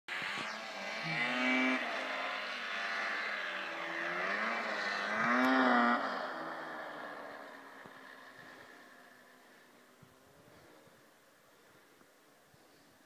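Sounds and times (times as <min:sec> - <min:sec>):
snowmobile engine revving: 0:00.1 - 0:10.9.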